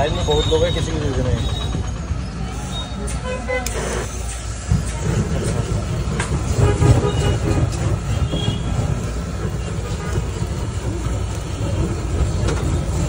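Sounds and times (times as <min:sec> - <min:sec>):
butane torch flame rushing: 0:02.2 - 0:13.0.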